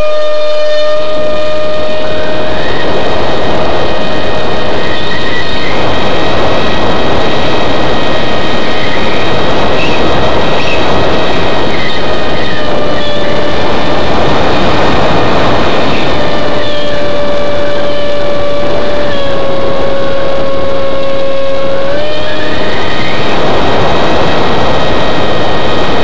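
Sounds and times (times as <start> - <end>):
model plane motor whine: 0.0 - 26.0
rushing wind: 0.0 - 26.0.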